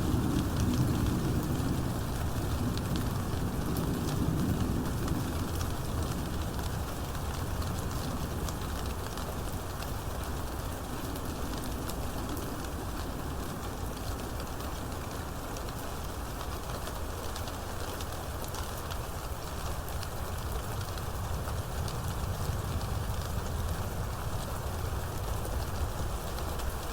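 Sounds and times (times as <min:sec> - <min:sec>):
low rumble of thunder: 0:00.0 - 0:15.0, 0:19.6 - 0:26.9
heavy rain: 0:00.0 - 0:26.9.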